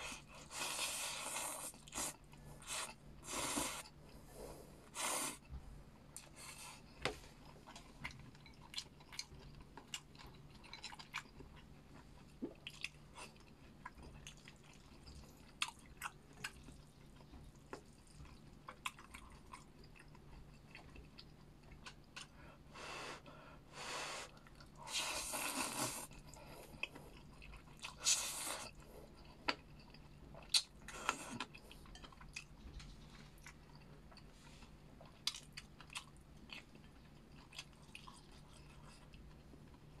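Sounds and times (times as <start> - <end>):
person chewing food: 0.0 - 22.7, 24.2 - 40.0.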